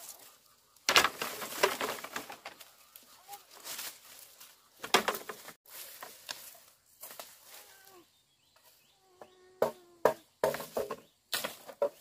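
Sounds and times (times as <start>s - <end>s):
knocks and scraping: 0.0s - 7.4s, 8.5s - 12.0s.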